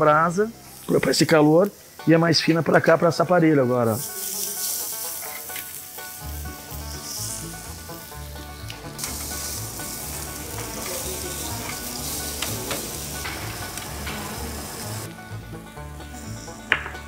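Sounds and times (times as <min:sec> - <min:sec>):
ribs sizzling on grill: 0:00.0 - 0:16.7.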